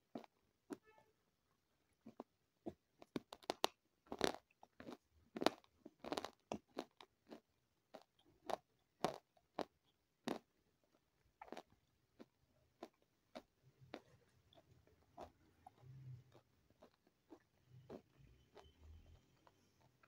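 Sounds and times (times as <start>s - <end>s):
person chewing crunchy food: 0.0s - 0.4s, 2.0s - 20.0s.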